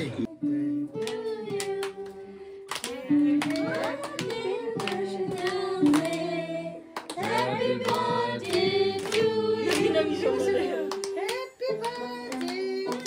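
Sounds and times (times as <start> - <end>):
voices singing together: 0.2 - 13.0.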